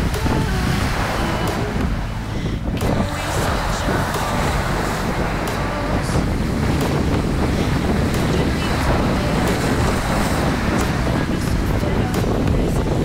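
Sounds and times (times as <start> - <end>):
sea water rushing around boat: 0.0 - 13.0
wind buffeting microphone: 0.0 - 13.0.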